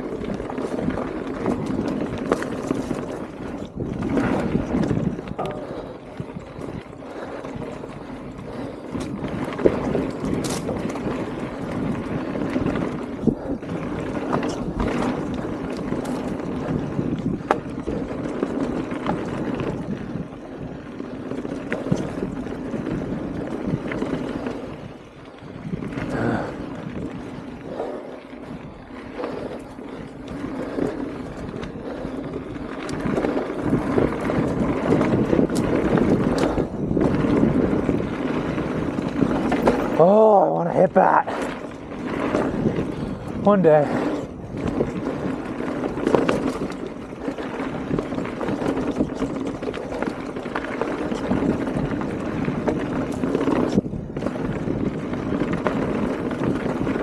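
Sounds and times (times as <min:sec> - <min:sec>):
bike tyre noise on dirt: 0:00.0 - 0:57.0
wind on microphone: 0:00.0 - 0:57.0.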